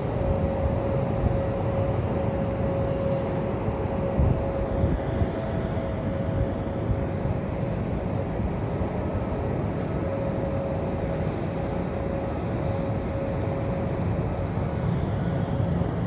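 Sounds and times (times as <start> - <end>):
faint whine: 0.0 - 16.0
jet engines rumbling: 0.0 - 16.0.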